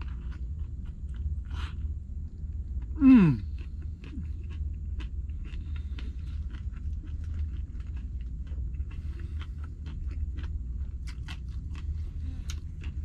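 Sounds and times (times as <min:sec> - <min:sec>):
low rumble: 0:00.0 - 0:13.0
man chewing food: 0:00.0 - 0:13.0.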